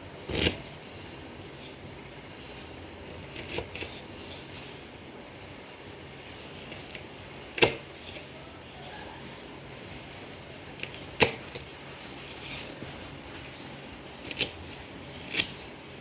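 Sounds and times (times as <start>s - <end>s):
knife slicing onion: 0.0s - 5.0s, 6.1s - 8.7s, 9.5s - 15.8s.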